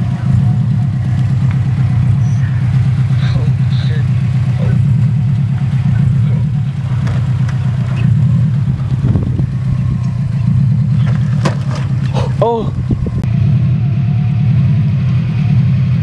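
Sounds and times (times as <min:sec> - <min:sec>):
car engine pulsing rumble: 0:00.0 - 0:16.0.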